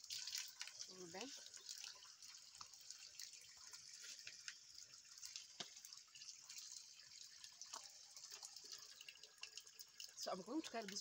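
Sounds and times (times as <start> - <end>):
water dripping: 0.0 - 11.0
water running from a pipe: 0.0 - 11.0.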